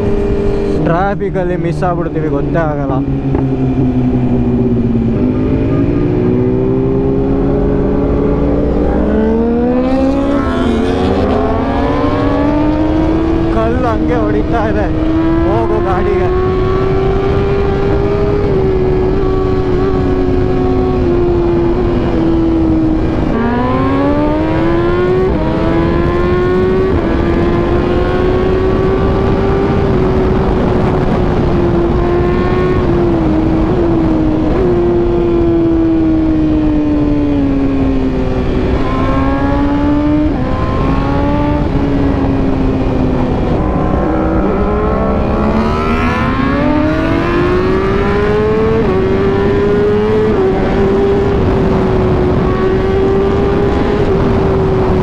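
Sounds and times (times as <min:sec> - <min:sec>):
motorbike engine accelerating: 0:00.0 - 0:55.0
wind rush: 0:00.0 - 0:55.0.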